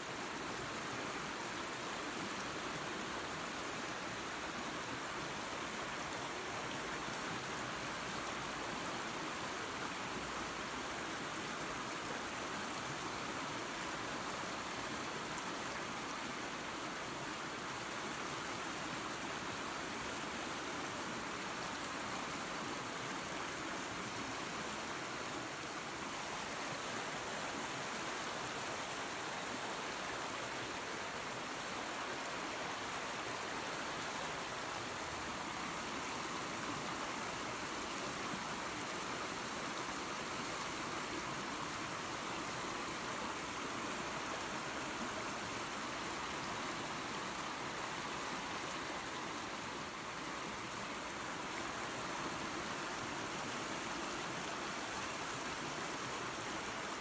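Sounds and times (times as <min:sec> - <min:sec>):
waterfall and creek rushing: 0:00.0 - 0:57.0.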